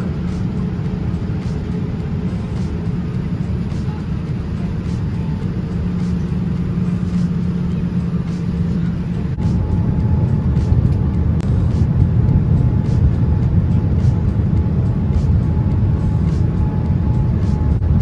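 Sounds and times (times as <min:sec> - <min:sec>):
airliner cabin engine drone: 0:00.0 - 0:18.0
constant low hum: 0:00.0 - 0:18.0.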